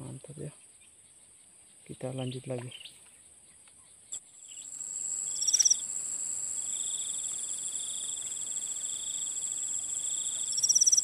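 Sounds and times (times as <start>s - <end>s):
insects buzzing and trilling: 0.0s - 11.0s.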